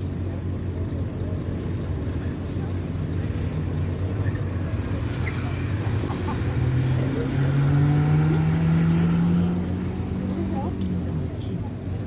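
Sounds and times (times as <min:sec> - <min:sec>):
car engine accelerating: 0:01.0 - 0:12.0.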